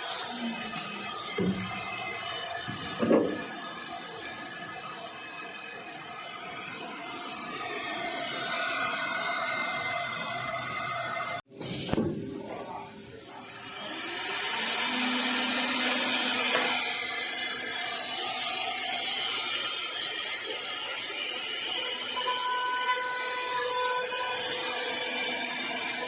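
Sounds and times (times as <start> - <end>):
router spindle milling: 0.0 - 11.4, 13.4 - 26.0.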